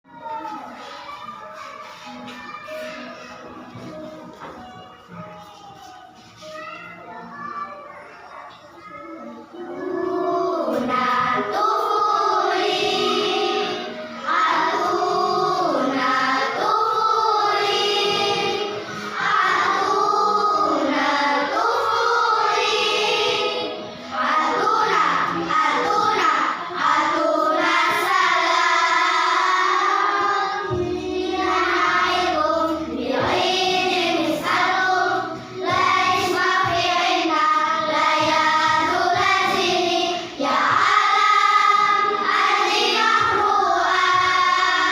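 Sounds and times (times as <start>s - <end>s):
children's choir singing: 0.1s - 44.9s.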